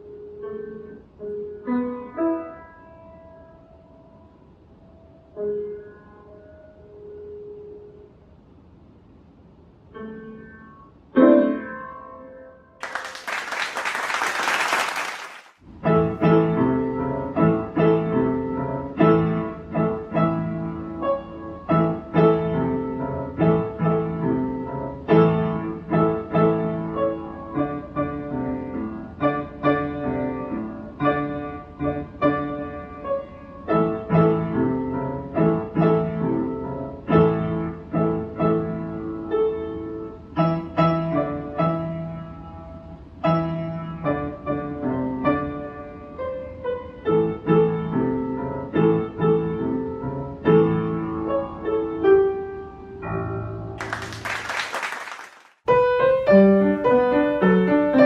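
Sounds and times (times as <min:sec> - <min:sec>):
piano piece: 0:00.0 - 0:08.3, 0:09.7 - 0:58.0.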